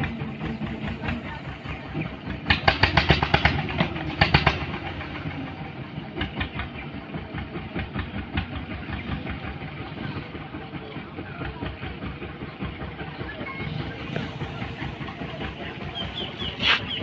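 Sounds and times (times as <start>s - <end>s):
heavy engine running: 0.0s - 17.0s.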